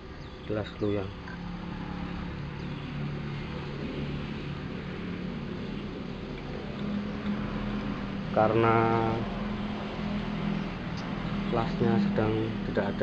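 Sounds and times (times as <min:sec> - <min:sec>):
constant noisy background: 0:00.0 - 0:13.0
engine-like hum: 0:00.0 - 0:13.0.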